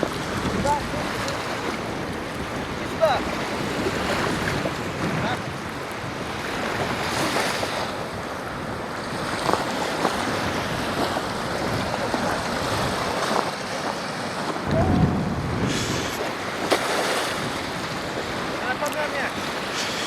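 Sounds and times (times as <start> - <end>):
waves breaking on shore: 0.0 - 20.0
wind gusting against microphone: 0.0 - 20.0.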